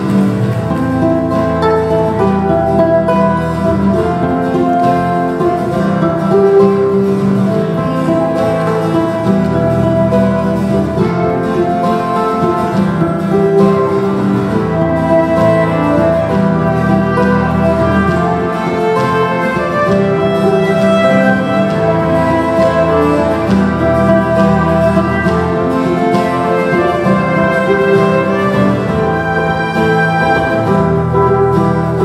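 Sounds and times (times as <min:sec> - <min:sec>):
acoustic guitar strumming: 0:00.0 - 0:32.0
ukulele strumming: 0:00.0 - 0:32.0
violin melody: 0:00.0 - 0:32.0.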